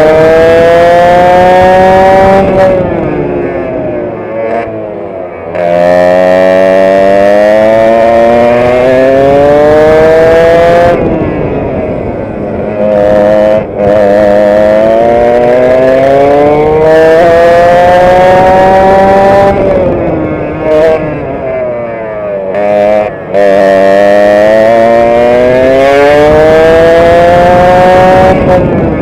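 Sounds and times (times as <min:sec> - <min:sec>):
two-stroke kart engine revving: 0:00.0 - 0:29.0.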